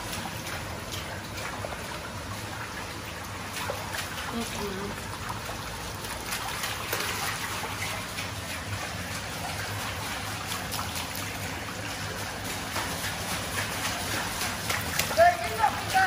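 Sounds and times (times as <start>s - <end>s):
dogs splashing through water: 0.0s - 16.0s
shallow water running: 0.0s - 16.0s.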